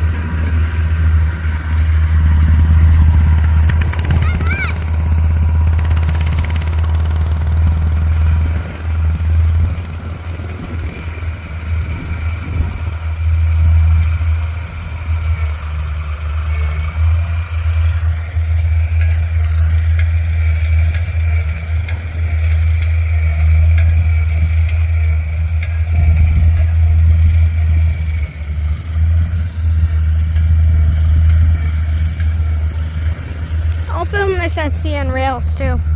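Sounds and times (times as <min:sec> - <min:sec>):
vehicle engine running: 0:00.0 - 0:35.9.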